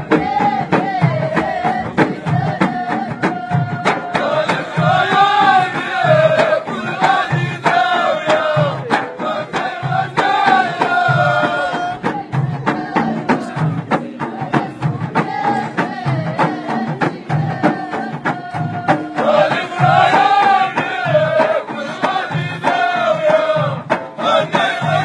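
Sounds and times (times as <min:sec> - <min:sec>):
low drum beat: 0:00.0 - 0:25.0
sharp clicking percussion: 0:00.0 - 0:25.0.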